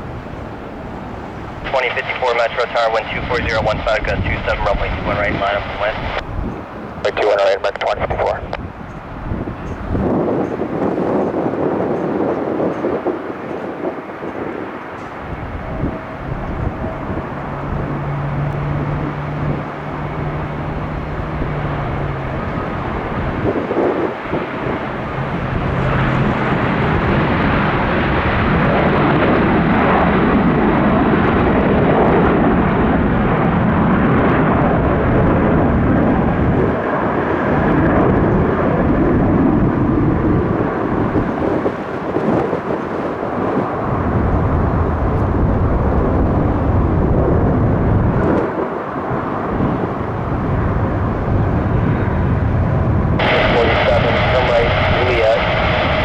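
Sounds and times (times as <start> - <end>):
jet engines running: 0.0 - 56.0
wind on microphone: 0.0 - 56.0.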